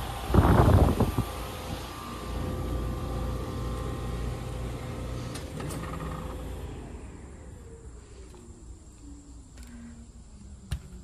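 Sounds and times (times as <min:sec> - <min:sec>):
heat pump hum: 0:00.0 - 0:10.8.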